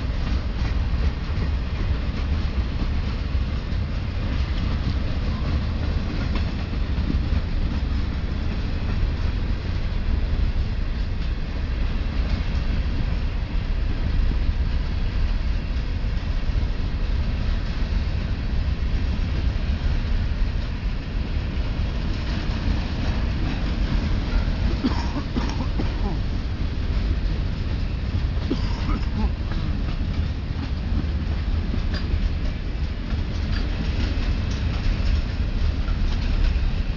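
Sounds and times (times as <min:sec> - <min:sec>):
clickety-clack of train cars: 0:00.0 - 0:36.9
freight train wheels rumbling: 0:00.0 - 0:36.9.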